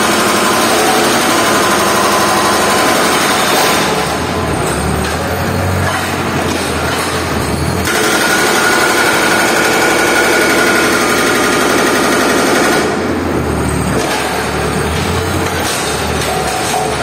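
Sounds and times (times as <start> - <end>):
excavator engine running: 0.0 - 17.0
hydraulic breaker hammering concrete: 0.0 - 17.0.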